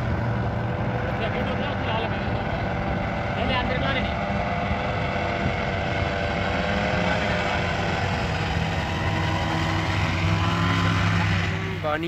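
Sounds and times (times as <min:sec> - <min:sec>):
paramotor engine buzzing: 0:00.0 - 0:12.0.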